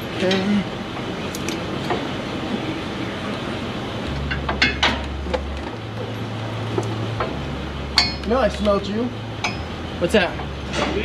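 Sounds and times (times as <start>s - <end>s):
low hum: 0.0s - 11.0s
shop background noise: 0.0s - 11.0s.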